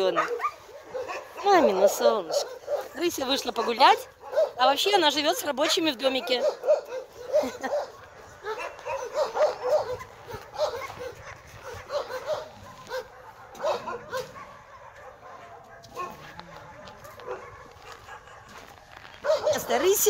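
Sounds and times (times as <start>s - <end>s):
dogs barking: 0.0s - 20.0s.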